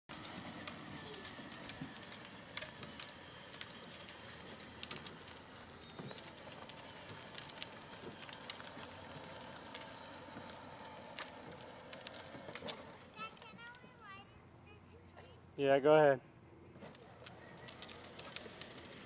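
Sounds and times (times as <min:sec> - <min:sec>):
small clicks and knocks: 0:00.1 - 0:13.9, 0:16.8 - 0:19.0
toy jeep and wagon rolling: 0:00.1 - 0:15.2, 0:16.7 - 0:19.0.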